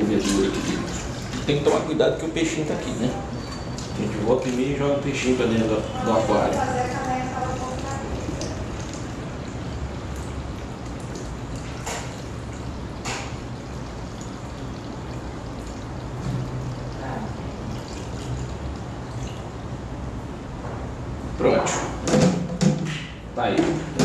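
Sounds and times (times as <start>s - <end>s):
liquid splashing and trickling: 0.0s - 19.9s.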